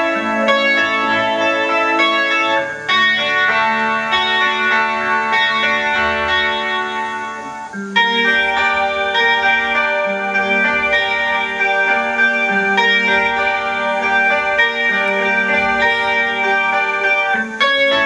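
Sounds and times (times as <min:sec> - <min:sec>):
electric guitar melody: 0:00.0 - 0:18.0.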